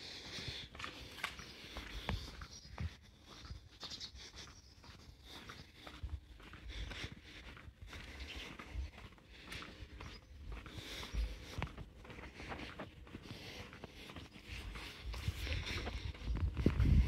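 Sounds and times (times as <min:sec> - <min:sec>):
faint street ambience: 0:00.0 - 0:17.0
footsteps on pavement: 0:00.0 - 0:17.0.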